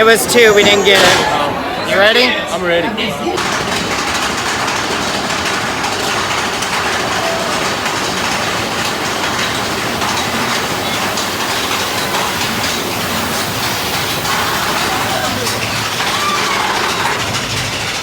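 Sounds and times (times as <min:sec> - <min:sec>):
roller coaster cars rattling: 0:00.0 - 0:18.0.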